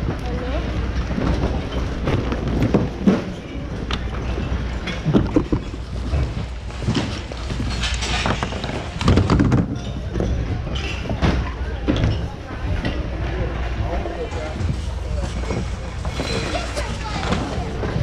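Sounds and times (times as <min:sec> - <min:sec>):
items knocking and clattering: 0:00.0 - 0:18.0.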